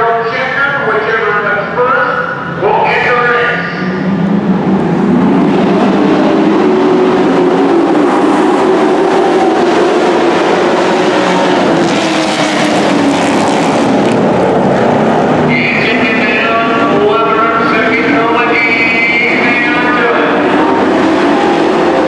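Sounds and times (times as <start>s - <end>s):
race truck engines droning: 0.0s - 22.0s.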